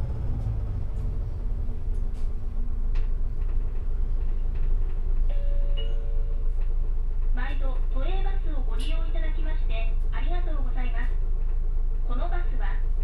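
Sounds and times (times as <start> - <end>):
bus diesel engine rumble: 0.0 - 13.0.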